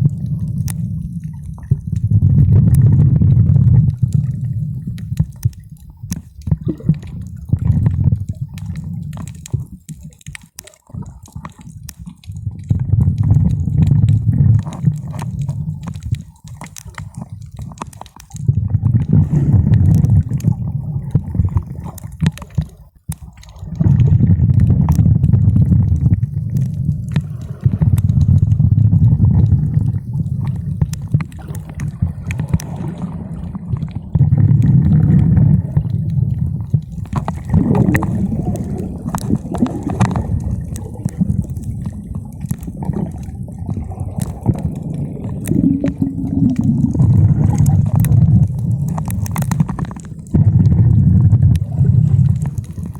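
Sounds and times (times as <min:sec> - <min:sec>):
muffled underwater sea wash: 0:00.0 - 0:52.9
faint clicks: 0:00.4 - 0:52.9.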